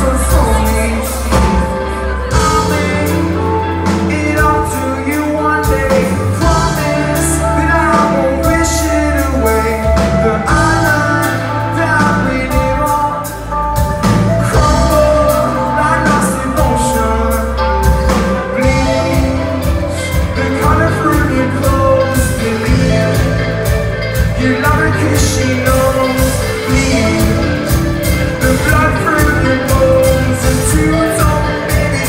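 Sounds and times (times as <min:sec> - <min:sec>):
lead vocals: 0:00.0 - 0:32.0
live rock band: 0:00.0 - 0:32.0.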